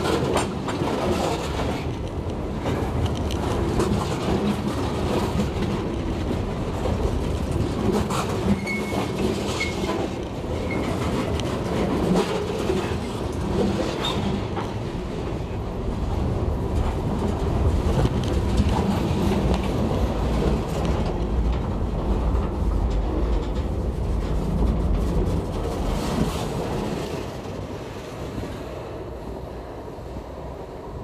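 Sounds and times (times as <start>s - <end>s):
freight train wheels rumbling: 0.0s - 31.0s
wheels clicking and clacking on rails: 0.0s - 31.0s.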